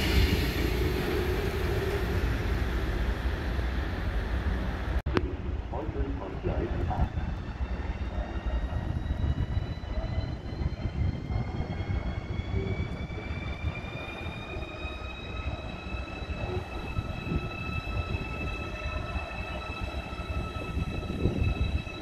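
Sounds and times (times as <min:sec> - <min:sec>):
electric train whine: 0:00.0 - 0:22.0
train rumbling on track: 0:00.0 - 0:22.0.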